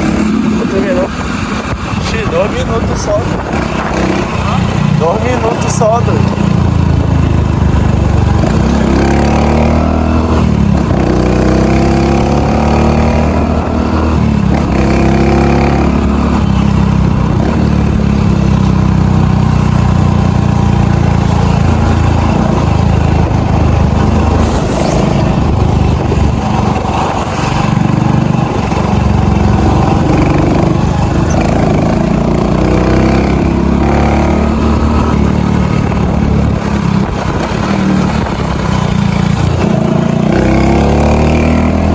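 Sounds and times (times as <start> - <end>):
small motorcycle engine revving: 0.0 - 41.9.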